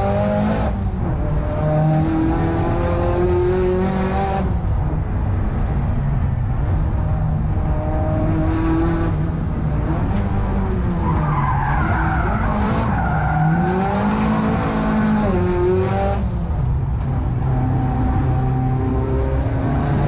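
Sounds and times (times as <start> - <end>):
car engine revving: 0.0 - 5.8, 6.6 - 20.0.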